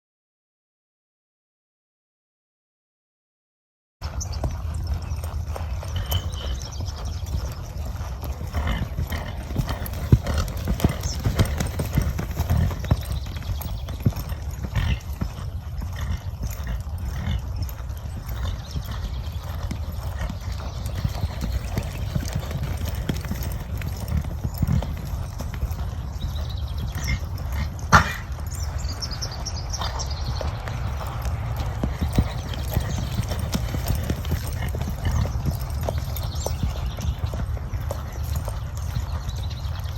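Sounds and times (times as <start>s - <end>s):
horse hooves clip-clopping: 4.0s - 39.9s.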